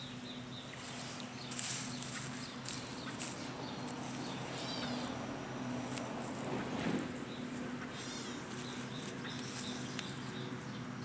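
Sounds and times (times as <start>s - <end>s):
dry straw rustling and crackling: 0.0s - 11.0s.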